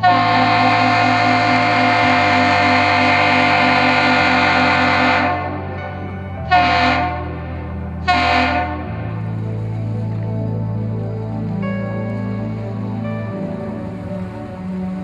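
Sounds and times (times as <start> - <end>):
background music with low chords: 0.0 - 15.0
ship's horn blasts: 0.0 - 15.0.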